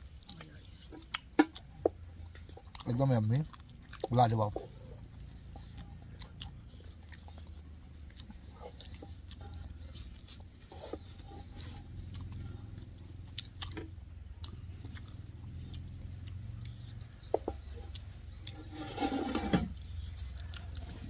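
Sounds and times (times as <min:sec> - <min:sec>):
person chewing crunchy food: 0:00.0 - 0:21.0
steady low hum: 0:00.0 - 0:21.0.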